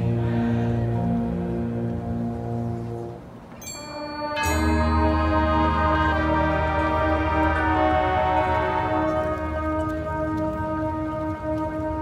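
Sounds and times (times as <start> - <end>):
marching band holding a chord: 0.0 - 12.0.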